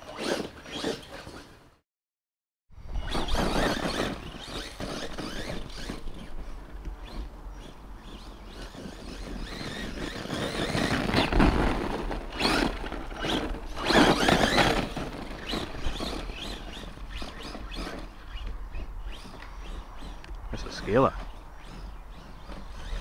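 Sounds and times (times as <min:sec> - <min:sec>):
electric toy truck motor whirring: 0:00.0 - 0:01.6, 0:03.0 - 0:23.0
tyres churning dirt: 0:03.0 - 0:23.0.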